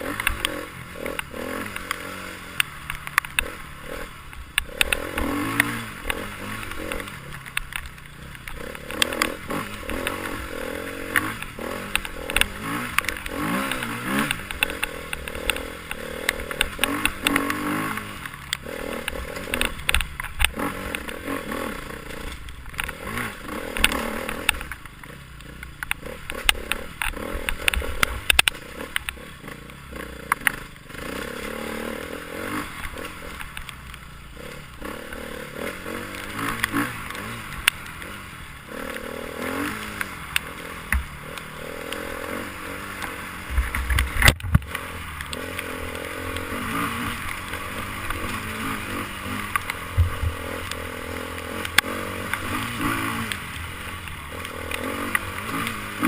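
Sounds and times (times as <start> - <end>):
motorcycle engine revving: 0.0 - 56.0
clatters and scrapes: 0.2 - 38.2, 38.8 - 56.0.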